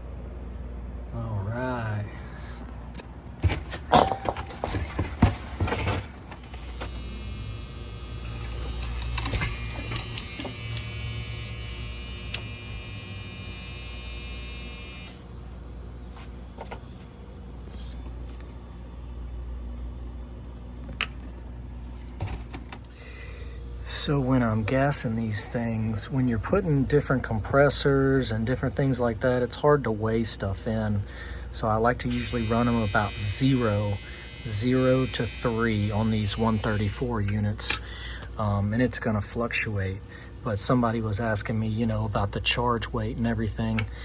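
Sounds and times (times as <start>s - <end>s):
refrigerator compressor humming: 0.0s - 44.0s.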